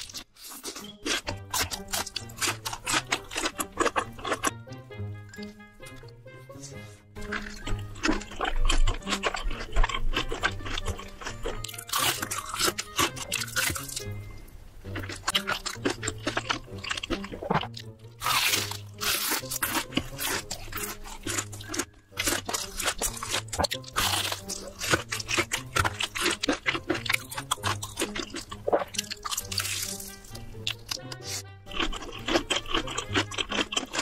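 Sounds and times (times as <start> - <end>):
crunching and chewing fried chicken: 0.0 - 4.8, 5.4 - 14.2, 14.8 - 34.0.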